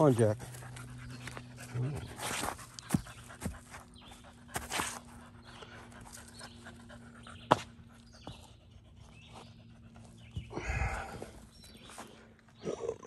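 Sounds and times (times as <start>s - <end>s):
dog panting: 0.0s - 11.4s.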